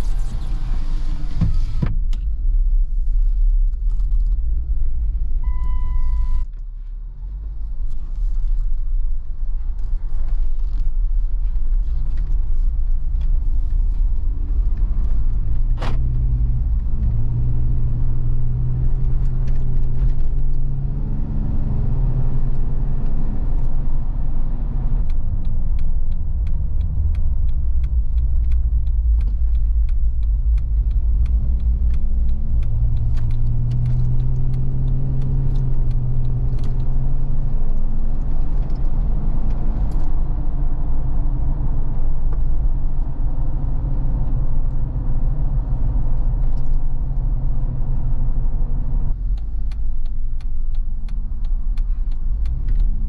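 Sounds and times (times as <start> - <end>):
car engine accelerating: 0.0 - 53.0
road rumble inside cabin: 0.0 - 53.0.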